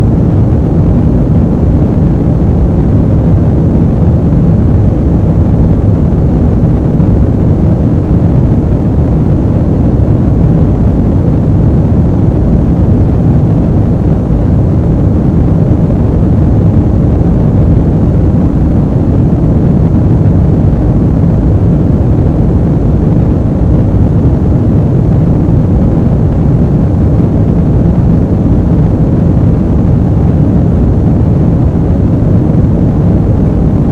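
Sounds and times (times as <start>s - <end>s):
airplane low rumble: 0.0s - 33.9s.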